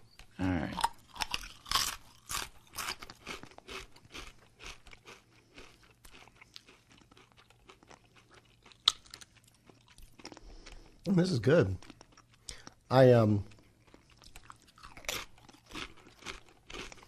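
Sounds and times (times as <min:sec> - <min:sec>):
crisps being crunched and chewed: 0:00.1 - 0:17.0.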